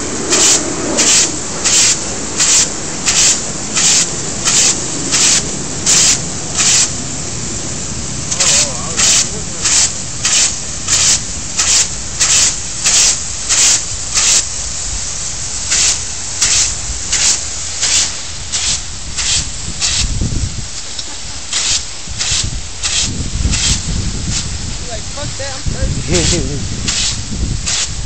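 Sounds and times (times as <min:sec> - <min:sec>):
water jet hissing: 0:00.0 - 0:28.0
water splashing spurts: 0:00.0 - 0:28.0.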